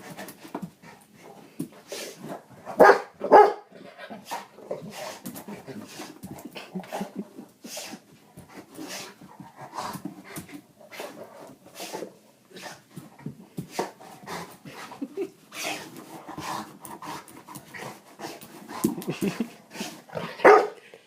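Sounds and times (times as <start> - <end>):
dog panting: 3.8 - 20.8.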